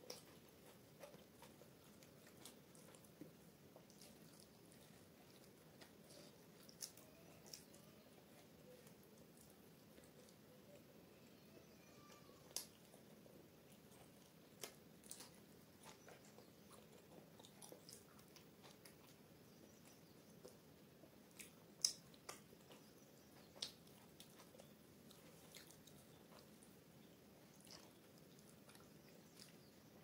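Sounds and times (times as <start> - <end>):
mouth chewing clicks and smacks: 0.0 - 10.4, 12.5 - 30.0.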